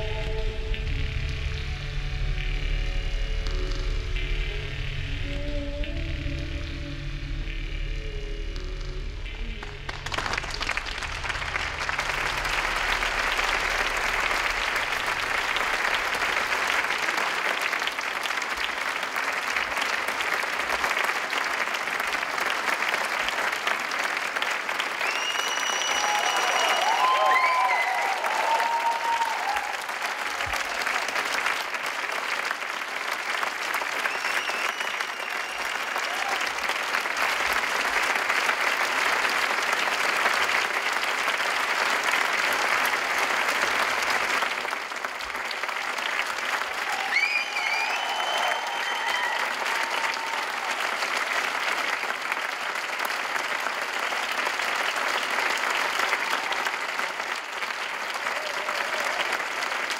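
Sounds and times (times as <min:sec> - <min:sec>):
audience clapping: 0:00.0 - 0:01.4, 0:08.6 - 0:59.9
crowd cheering: 0:09.2 - 0:59.9.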